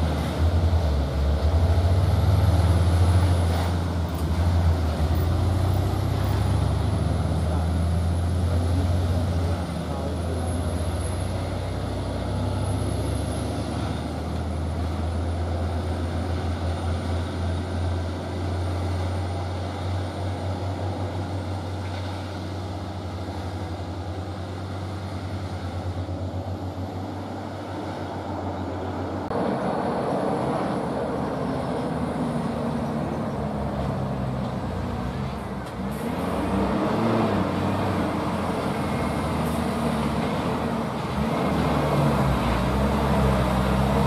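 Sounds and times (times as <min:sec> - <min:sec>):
traffic noise: 0:00.0 - 0:44.0
truck diesel engines droning: 0:00.0 - 0:44.0.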